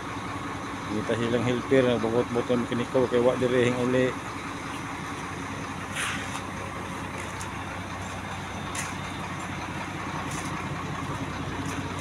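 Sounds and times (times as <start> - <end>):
engine idling hum: 0.0 - 12.0.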